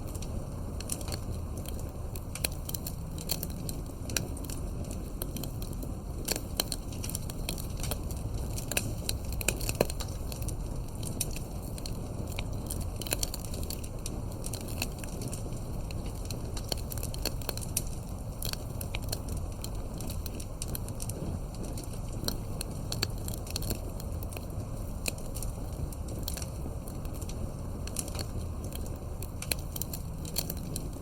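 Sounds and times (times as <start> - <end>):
fireplace crackling: 0.0 - 31.0.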